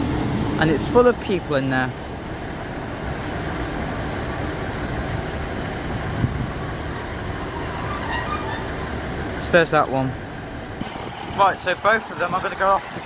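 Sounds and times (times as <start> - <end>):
diesel train engines idling: 0.0 - 13.0.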